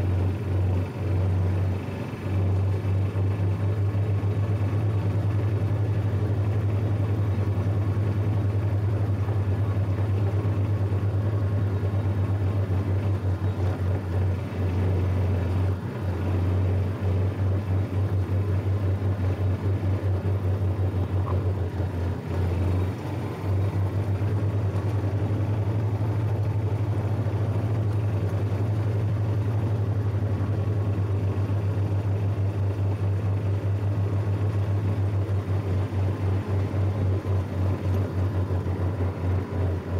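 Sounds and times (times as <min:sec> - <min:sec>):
riding lawn tractor engine: 0:00.0 - 0:39.9.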